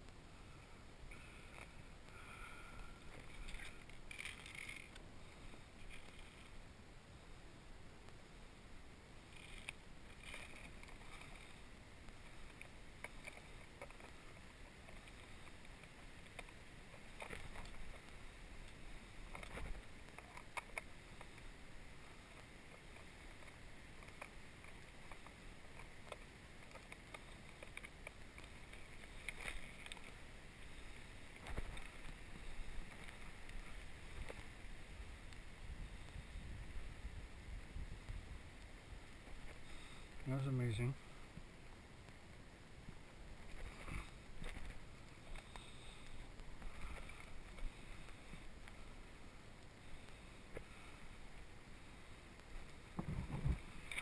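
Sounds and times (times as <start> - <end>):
leaves and twigs crackling: 1.1 - 6.8, 9.2 - 54.0.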